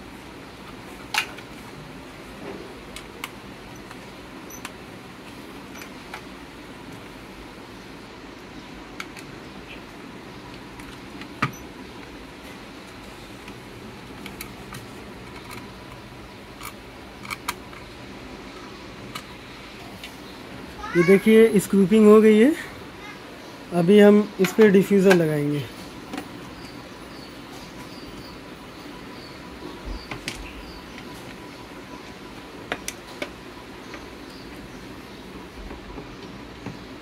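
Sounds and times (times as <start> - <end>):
background noise: 0.0 - 37.0.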